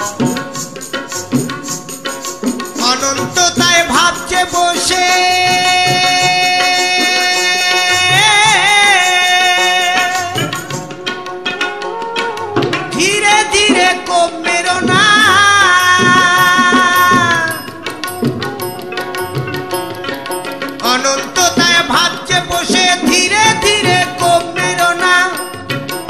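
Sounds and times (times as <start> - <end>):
hand drum strokes: 0.0 - 26.0.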